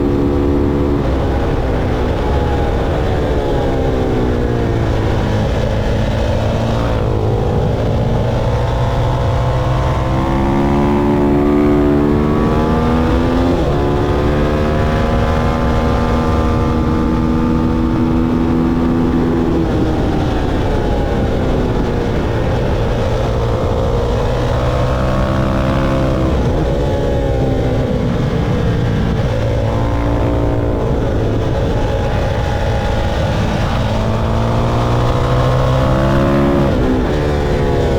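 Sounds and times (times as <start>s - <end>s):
motorcycle engine accelerating: 0.0s - 37.9s.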